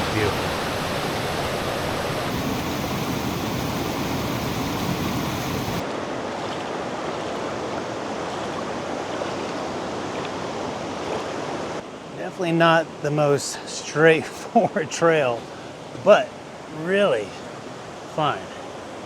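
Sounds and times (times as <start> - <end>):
creek and waterfalls rushing: 0.0 - 19.0.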